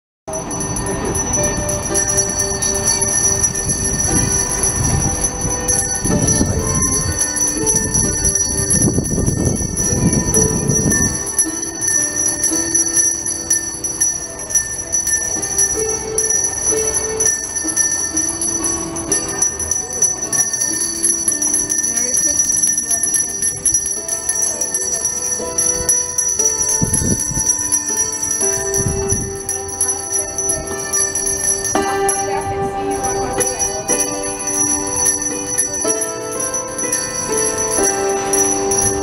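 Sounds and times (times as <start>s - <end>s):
hammered dulcimer melody: 0.3s - 39.0s
hand bells ringing: 0.3s - 39.0s.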